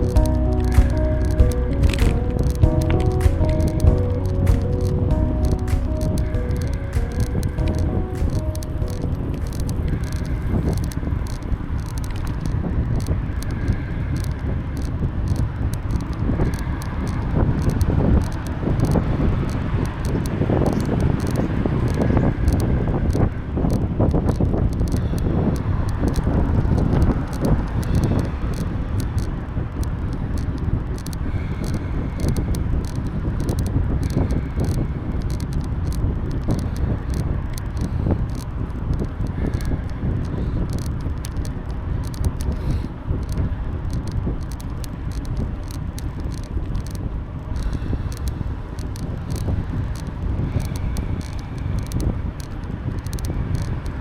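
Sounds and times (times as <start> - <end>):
bicycle tyre rumble: 0.0 - 54.0
bike clicks and rattles: 0.0 - 54.0
wind rushing over microphone: 0.0 - 54.0.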